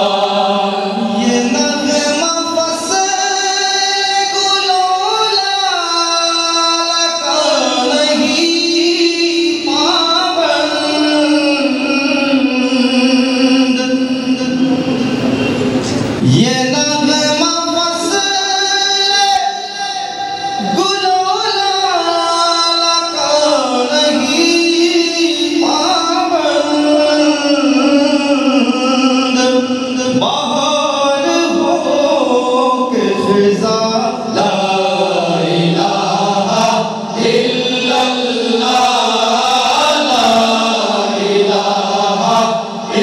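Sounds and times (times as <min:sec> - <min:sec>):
male choir singing: 0:00.0 - 0:15.1, 0:16.2 - 0:43.0.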